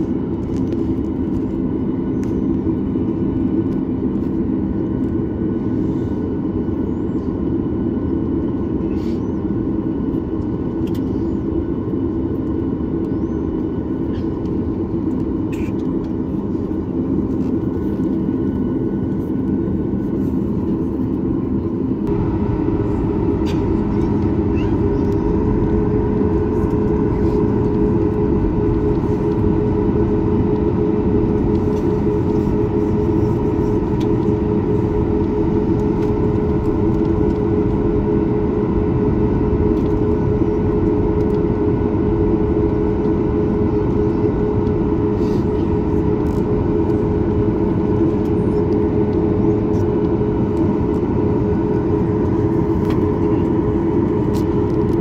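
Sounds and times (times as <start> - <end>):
aircraft cabin engine drone: 0.0 - 55.0.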